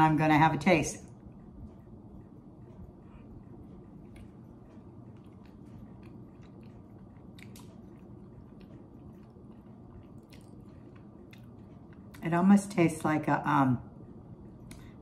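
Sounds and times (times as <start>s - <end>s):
chewing soft cookie: 0.0s - 15.0s
low steady hum: 0.0s - 15.0s.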